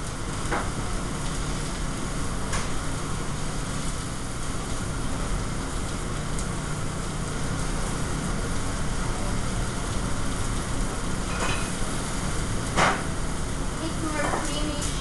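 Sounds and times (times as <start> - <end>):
exhaust hood fan: 0.0 - 15.0
food sizzling: 0.0 - 15.0.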